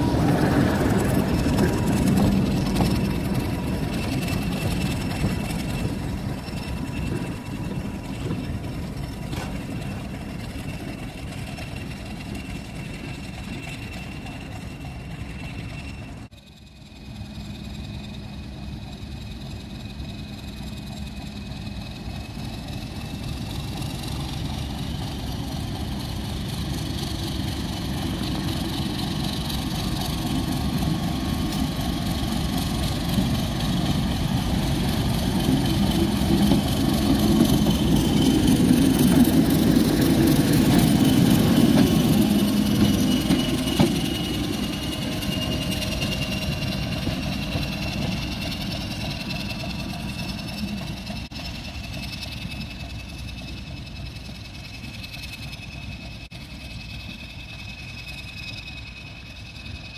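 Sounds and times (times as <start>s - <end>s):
diesel locomotive passing: 0.0s - 59.9s.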